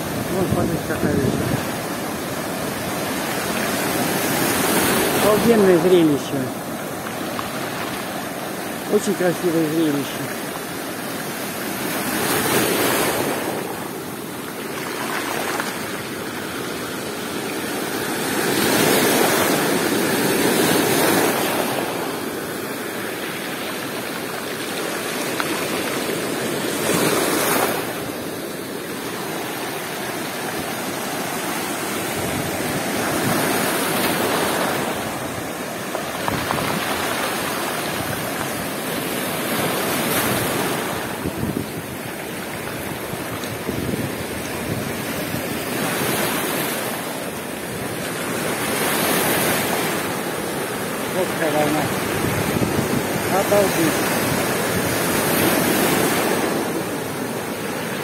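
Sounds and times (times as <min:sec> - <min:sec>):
waves breaking on stone beach: 0:00.0 - 0:58.0.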